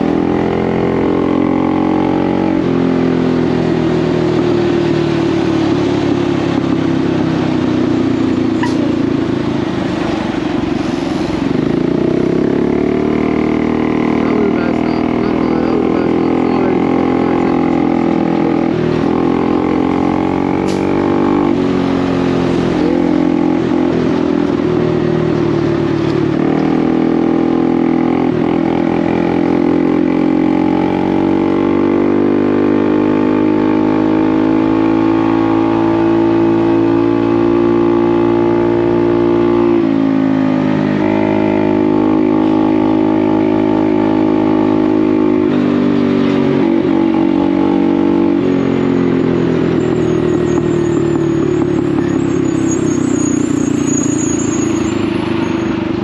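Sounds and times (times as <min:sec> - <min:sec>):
motorbike engine droning: 0:00.0 - 0:56.0.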